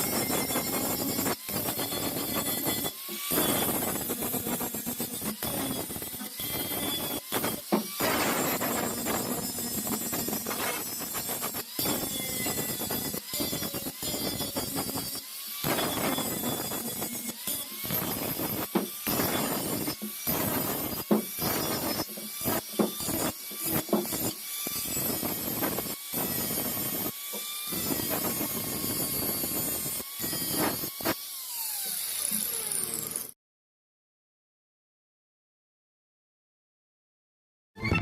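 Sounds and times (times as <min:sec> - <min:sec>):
power tool noise: 0:00.0 - 0:33.4.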